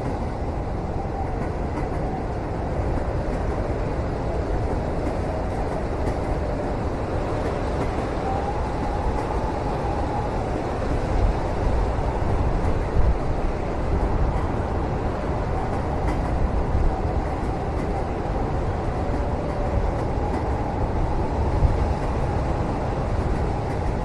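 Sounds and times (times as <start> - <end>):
train rumble inside cabin: 0.0 - 24.0.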